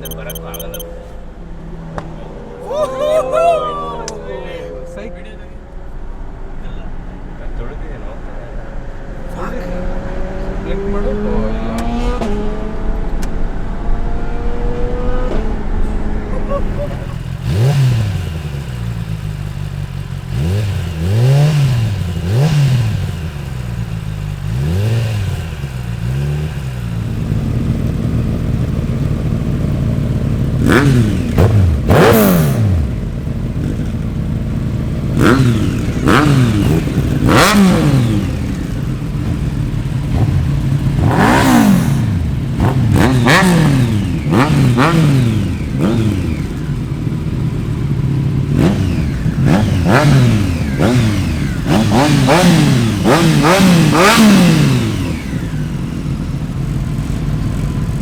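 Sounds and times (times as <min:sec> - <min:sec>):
motorcycle engine throttle blips: 0:00.0 - 0:02.5, 0:10.8 - 0:58.0.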